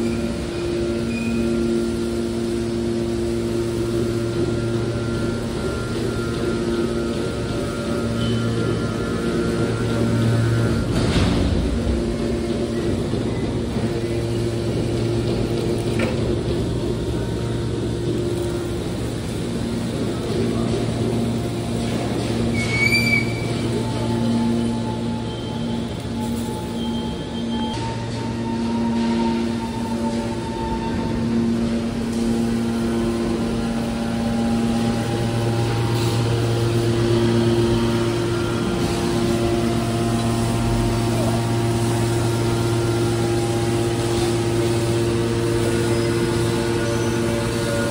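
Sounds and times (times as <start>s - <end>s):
hydraulic baler hum: 0.0s - 47.9s.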